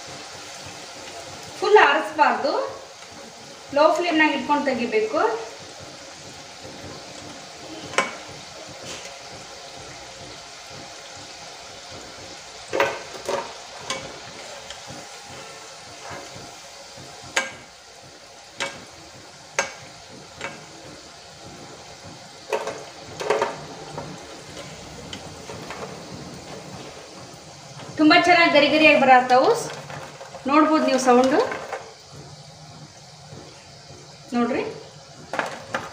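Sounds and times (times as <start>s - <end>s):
food deep-frying in hot oil: 0.0s - 35.9s.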